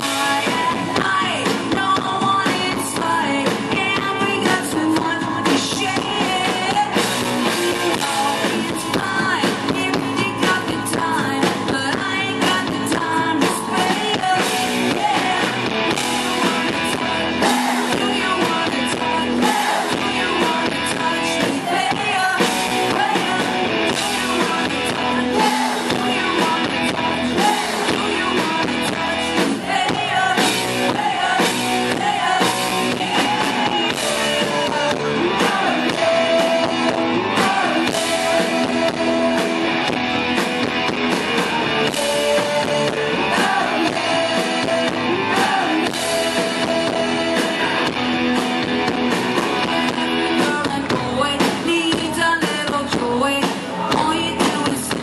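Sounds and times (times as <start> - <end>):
woman singing: 0.0 - 40.0, 41.4 - 48.0, 49.6 - 55.0
live rock band playing: 0.0 - 55.0.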